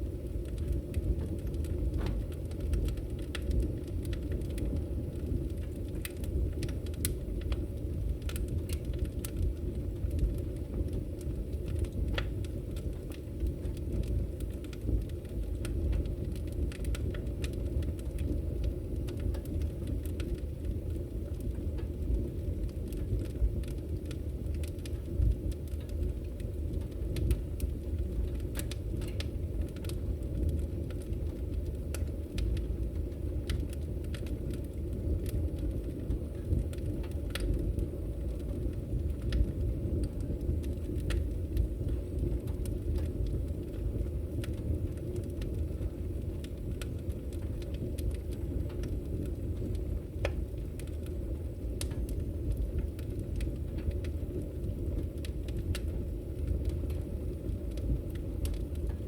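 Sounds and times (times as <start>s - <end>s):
logs crackling and popping: 0.0s - 59.0s
wood fire rumbling: 0.0s - 59.0s.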